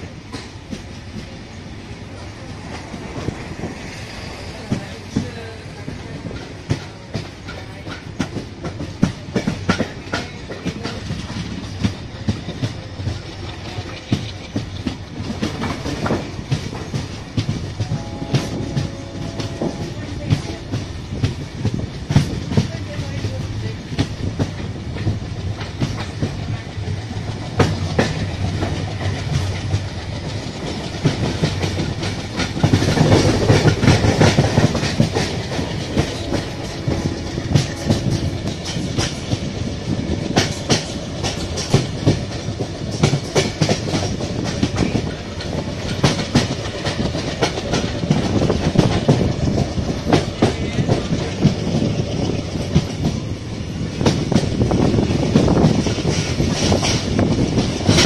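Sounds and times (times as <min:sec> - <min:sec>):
train rumbling on track: 0:00.0 - 0:58.0
train wheels clickety-clack: 0:00.0 - 0:58.0.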